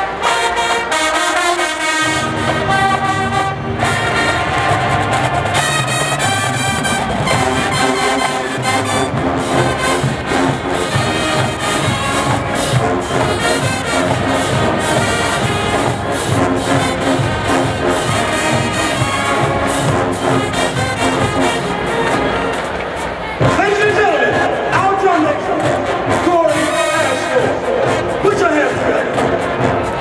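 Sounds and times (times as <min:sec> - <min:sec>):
brass section melody: 0:00.0 - 0:30.0
marching band playing: 0:00.0 - 0:30.0
drum line beat: 0:02.4 - 0:22.4, 0:23.4 - 0:30.0.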